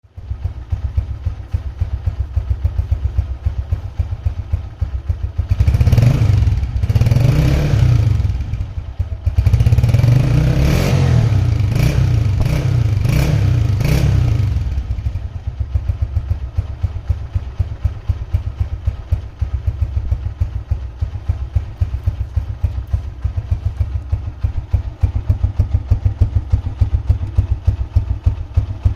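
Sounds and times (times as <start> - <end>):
motorcycle engine idling and revving: 0.0 - 28.9.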